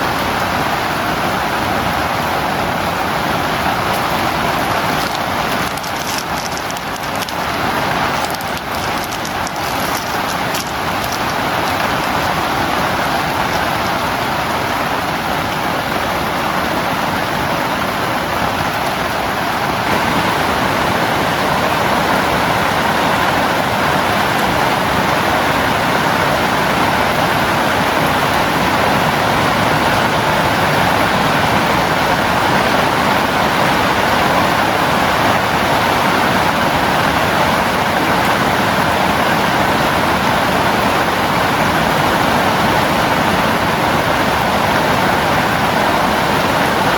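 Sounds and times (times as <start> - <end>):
heavy rain on a tent: 0.0 - 46.9.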